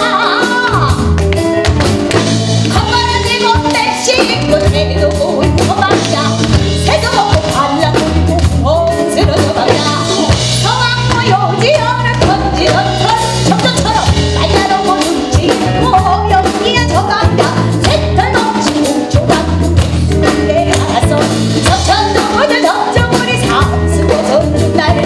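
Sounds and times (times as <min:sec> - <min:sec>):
live band playing upbeat instrumental: 0:00.0 - 0:25.0.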